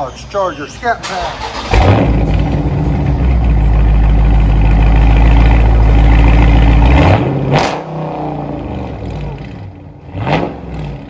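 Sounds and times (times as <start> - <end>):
car engine rumbling: 0.0 - 11.0
exhaust crack: 0.8 - 11.0.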